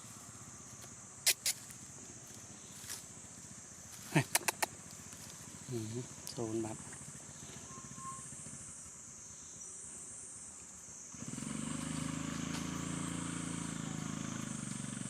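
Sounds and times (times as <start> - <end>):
insects buzzing: 0.0 - 15.0
motor engine humming: 0.0 - 15.0.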